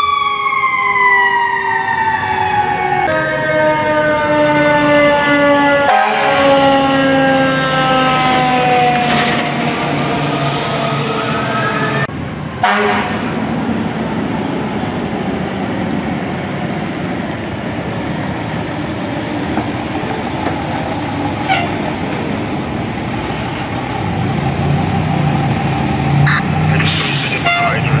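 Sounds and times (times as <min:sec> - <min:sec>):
fire engine diesel engine: 0:00.0 - 0:28.0
street traffic: 0:00.0 - 0:28.0.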